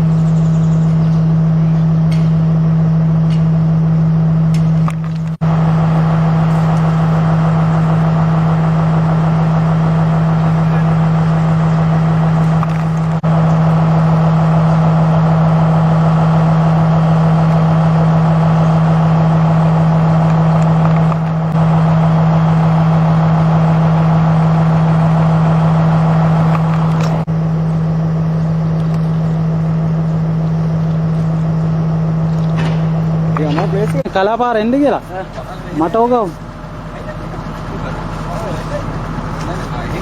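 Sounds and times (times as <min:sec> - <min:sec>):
large engine droning: 0:00.0 - 0:40.0.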